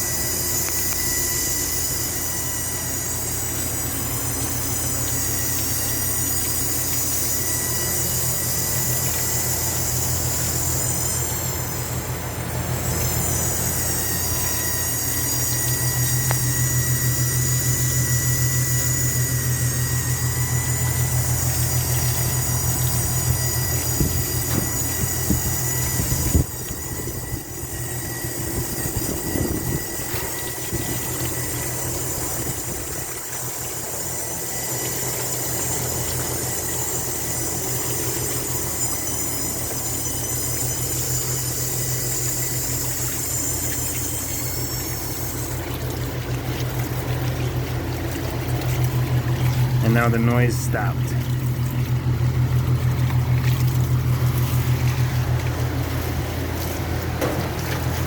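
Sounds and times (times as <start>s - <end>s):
air conditioner humming: 0.0s - 58.0s
high-pitched squealing whine: 0.0s - 58.0s.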